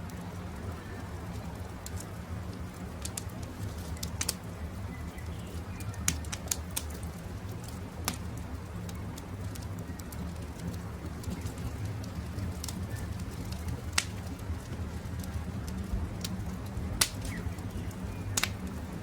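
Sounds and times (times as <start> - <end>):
campfire crackling and popping: 0.0 - 19.0
low steady rumble: 0.0 - 19.0.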